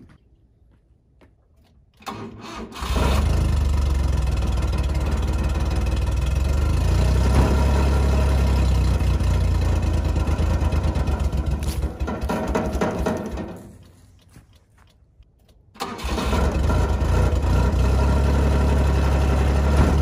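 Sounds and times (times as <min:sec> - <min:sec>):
small truck engine starting and idling: 0:02.0 - 0:13.9, 0:15.7 - 0:20.0.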